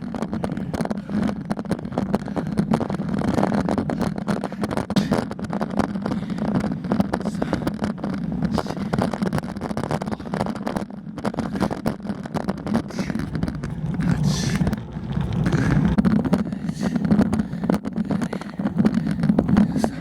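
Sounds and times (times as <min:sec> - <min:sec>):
bicycle rattles and knocks: 0:00.0 - 0:20.0
bicycle ride rumble: 0:00.0 - 0:20.0
wind on microphone: 0:00.0 - 0:20.0.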